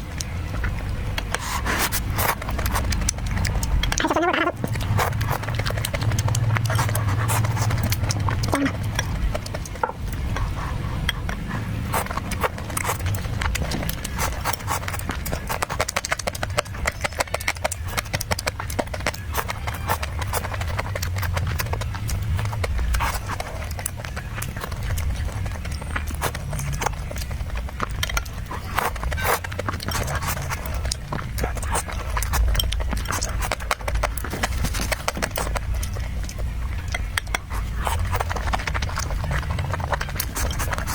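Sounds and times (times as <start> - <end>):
chewing and lip-smacking: 0.0 - 40.9.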